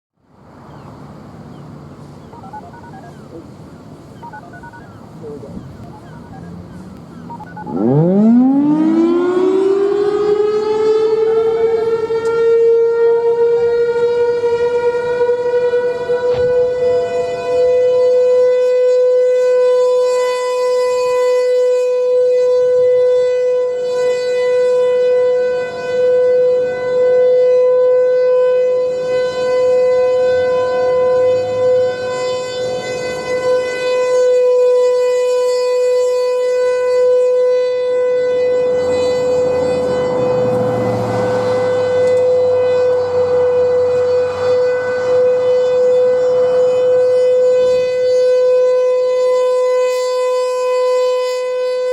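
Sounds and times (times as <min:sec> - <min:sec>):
warning siren steady tone: 0:01.5 - 0:51.9.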